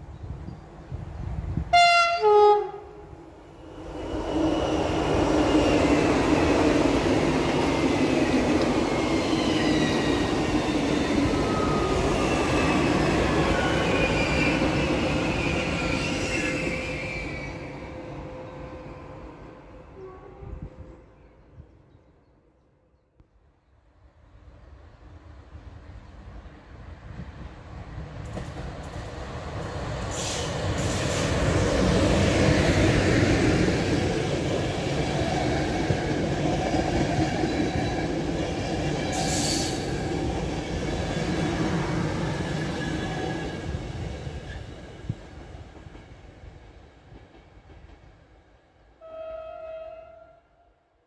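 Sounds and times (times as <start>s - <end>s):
train coaches rumbling on rails: 0.0s - 21.7s, 25.8s - 48.8s.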